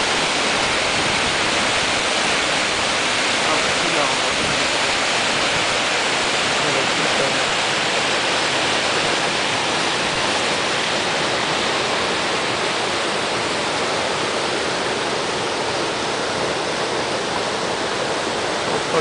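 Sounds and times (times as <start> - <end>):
river water rushing over boulders: 0.0 - 19.0.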